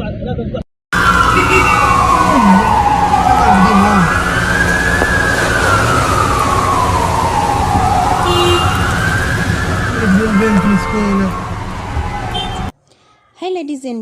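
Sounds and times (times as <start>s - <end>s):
siren wailing: 1.0s - 12.7s.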